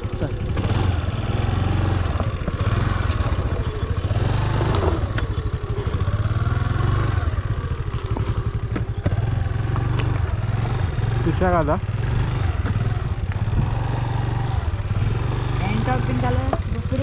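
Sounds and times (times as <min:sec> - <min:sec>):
scooter engine revving: 0:00.0 - 0:17.0.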